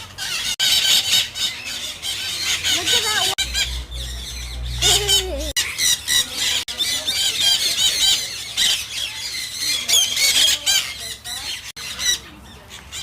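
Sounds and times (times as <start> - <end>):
parrots squawking: 0.0 - 13.0.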